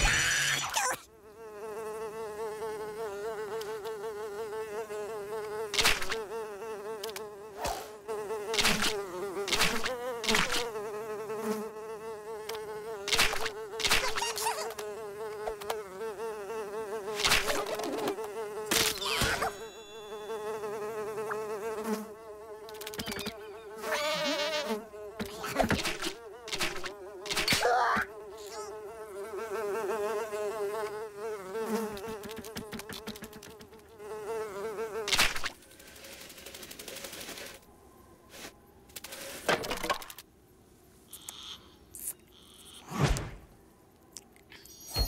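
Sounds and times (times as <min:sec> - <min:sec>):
fly buzzing: 0:00.0 - 0:37.4, 0:41.1 - 0:43.5.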